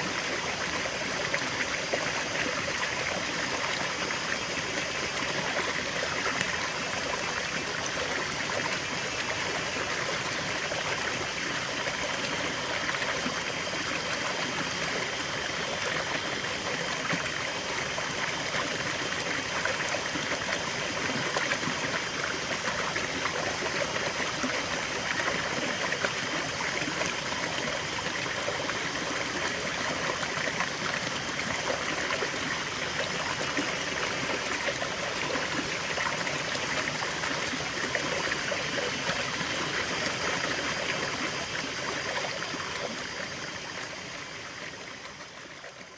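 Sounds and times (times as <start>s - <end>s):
stream trickling over stones: 0.0s - 45.9s.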